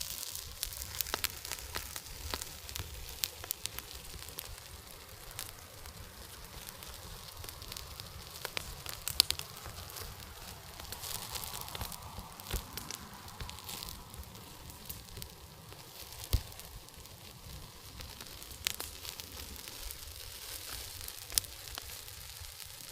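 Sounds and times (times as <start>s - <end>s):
fire crackling and popping: 0.0s - 22.9s.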